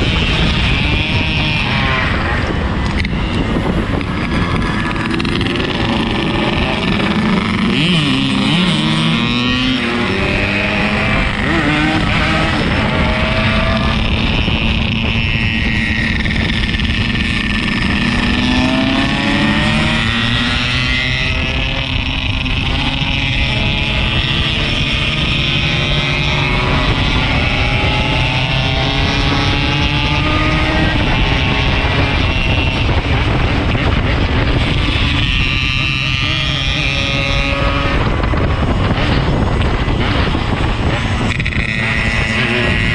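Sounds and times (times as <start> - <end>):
motorcycle two-stroke engine running: 0.0 - 42.9
wind and road noise: 0.0 - 42.9.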